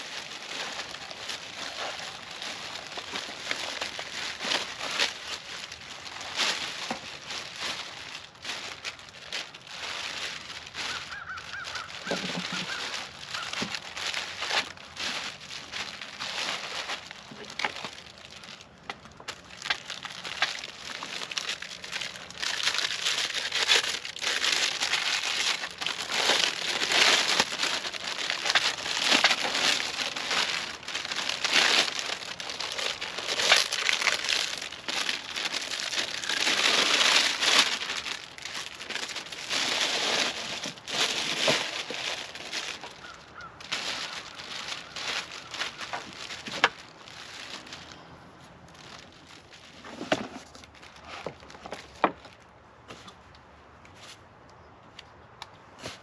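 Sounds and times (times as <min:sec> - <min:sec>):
crinkling plastic and paper wrapping: 0:00.0 - 0:54.2, 0:55.3 - 0:56.0.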